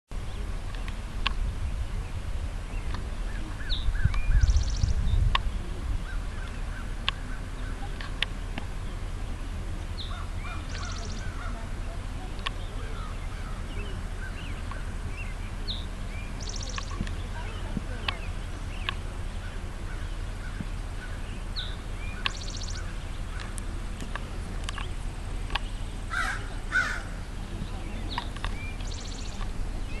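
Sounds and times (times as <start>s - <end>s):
birds chirping: 0.1s - 30.0s
steady low rumble: 0.1s - 30.0s.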